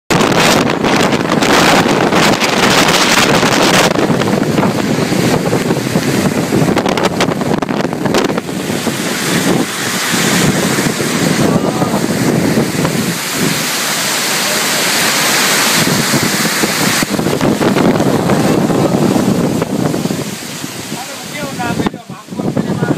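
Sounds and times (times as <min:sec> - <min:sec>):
wind buffeting a microphone: 0:00.1 - 0:22.9.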